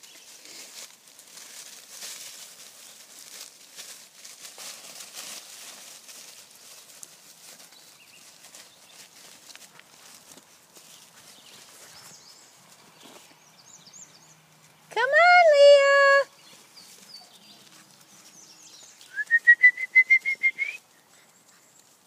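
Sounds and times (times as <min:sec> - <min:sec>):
puppies rustling dry leaves: 0:00.0 - 0:22.0.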